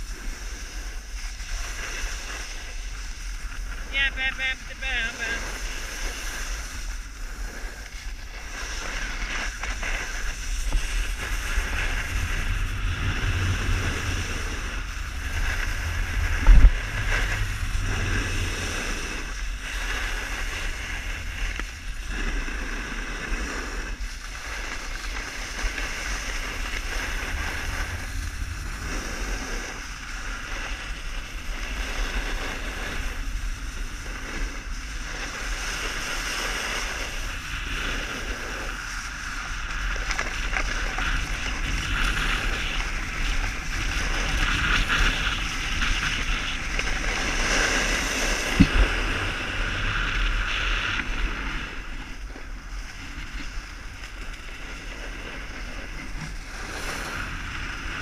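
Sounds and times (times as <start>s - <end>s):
sliding over packed snow: 0.0s - 58.0s
wind on microphone: 0.0s - 58.0s.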